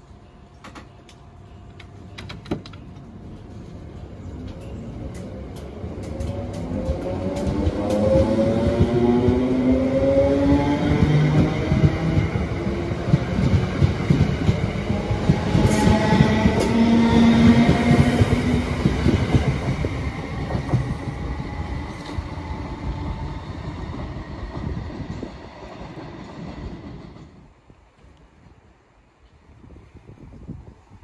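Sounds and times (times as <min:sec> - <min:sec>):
train rail noise: 0:00.0 - 0:30.7.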